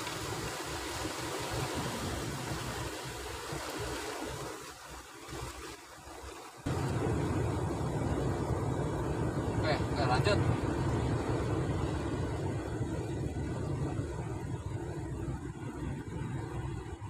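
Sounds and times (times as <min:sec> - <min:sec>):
surf on rocky shore: 0:00.0 - 0:17.0
wind on microphone: 0:00.0 - 0:17.0.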